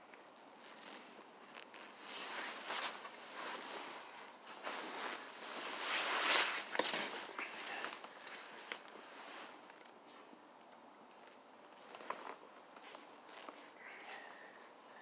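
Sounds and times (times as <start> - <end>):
blankets rustling: 0.0 - 15.0.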